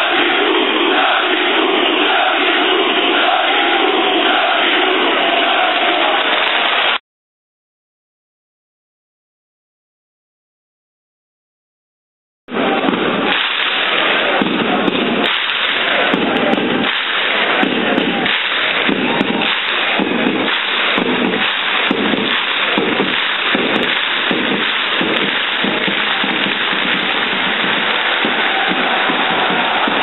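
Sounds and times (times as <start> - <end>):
football crowd chanting: 0.0 - 7.0, 12.5 - 30.0.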